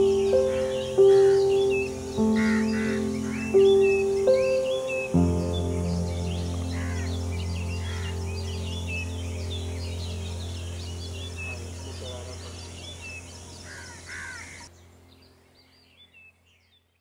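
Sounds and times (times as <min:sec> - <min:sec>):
low music drone: 0:00.0 - 0:14.0
harsh bird calls: 0:00.0 - 0:14.7
small birds chirping: 0:00.0 - 0:17.0.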